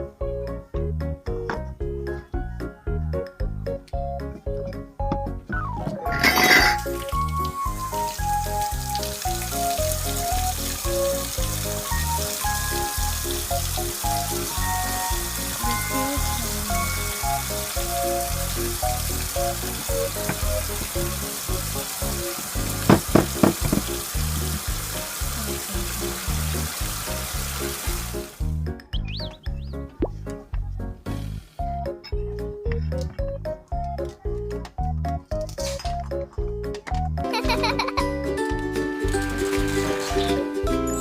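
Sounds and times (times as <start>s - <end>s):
music with plucked melody: 0.0s - 41.0s.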